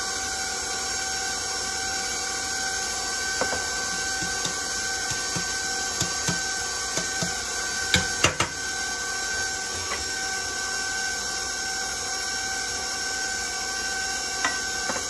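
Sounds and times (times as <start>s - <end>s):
stand mixer motor whining: 0.0s - 15.0s.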